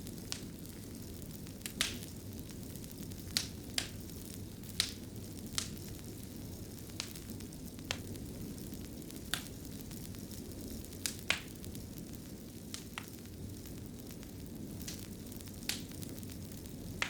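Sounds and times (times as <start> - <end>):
low rumble of flames: 0.0 - 17.0
sharp pops of fire: 0.0 - 17.0
wood fire crackling: 0.0 - 17.0.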